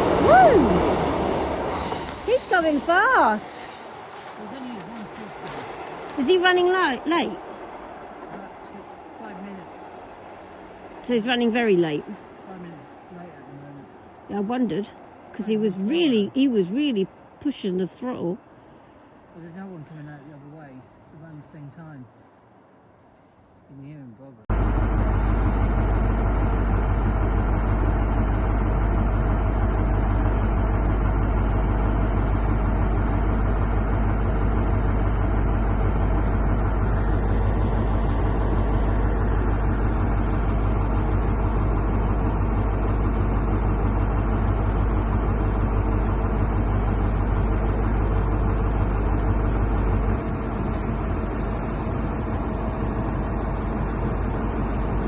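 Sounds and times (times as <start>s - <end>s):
diesel train engine rumbling: 0.0s - 55.0s.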